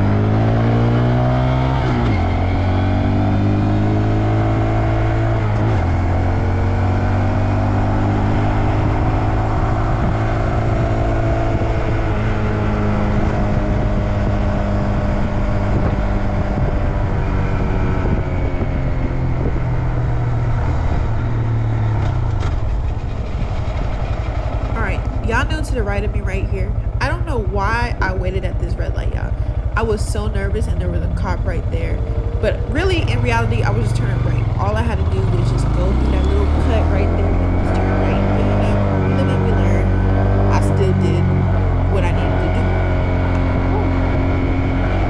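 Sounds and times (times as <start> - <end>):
motorcycle engine accelerating: 0.0 - 45.0
wind buffeting microphone: 0.0 - 45.0.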